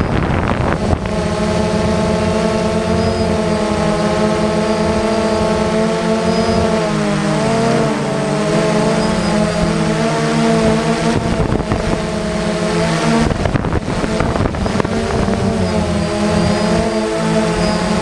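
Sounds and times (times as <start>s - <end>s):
drone propellers buzzing: 0.0s - 18.0s
wind buffeting on microphone: 0.0s - 18.0s.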